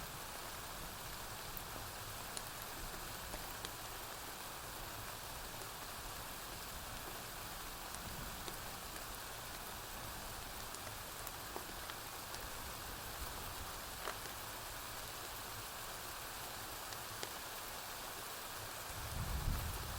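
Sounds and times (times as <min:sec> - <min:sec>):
rain on a roof: 0:00.0 - 0:19.9.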